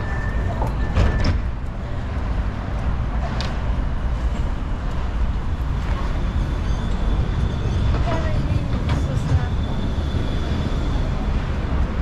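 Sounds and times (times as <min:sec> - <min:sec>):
city street noise: 0:00.0 - 0:12.0
tram rumbling: 0:00.0 - 0:12.0.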